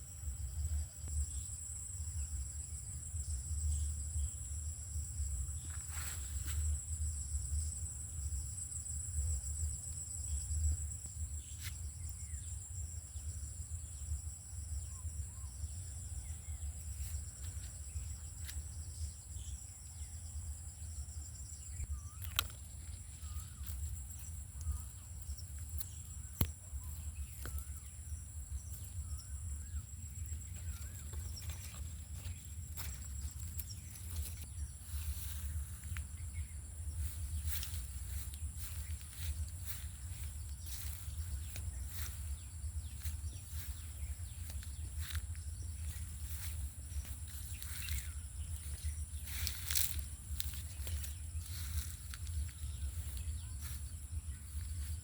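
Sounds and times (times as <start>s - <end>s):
high-pitched insect trill: 0.0s - 55.0s.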